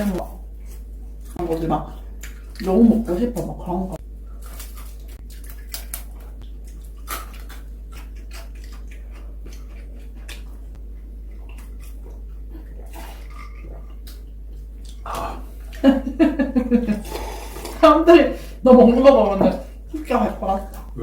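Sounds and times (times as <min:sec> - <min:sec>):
chewing crunches and smacking: 0:00.0 - 0:16.0, 0:19.6 - 0:21.0
low electrical hum: 0:00.0 - 0:21.0.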